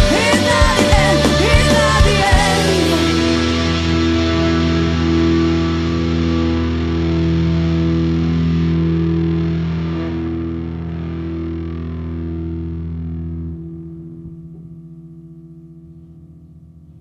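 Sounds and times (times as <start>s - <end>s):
distorted electric guitar chord: 0.0s - 17.0s.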